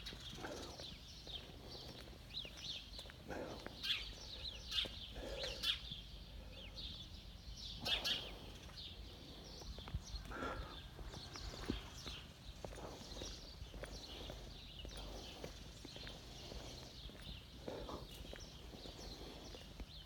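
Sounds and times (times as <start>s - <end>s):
footsteps on brick path: 0.0s - 20.0s
small birds chirping: 0.0s - 20.0s.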